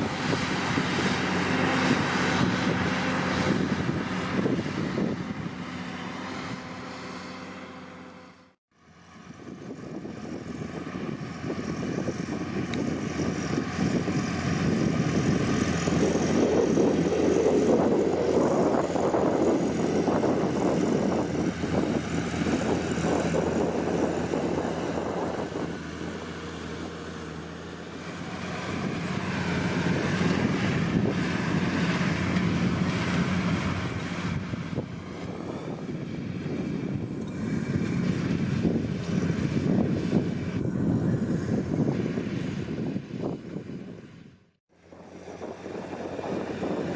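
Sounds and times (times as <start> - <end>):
tractor diesel engine running: 0.0 - 44.1.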